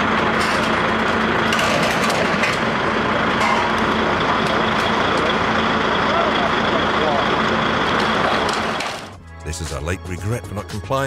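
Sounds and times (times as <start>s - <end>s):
outdoor noise rushing: 0.0s - 9.2s
heavy vehicle engine running: 0.0s - 11.0s.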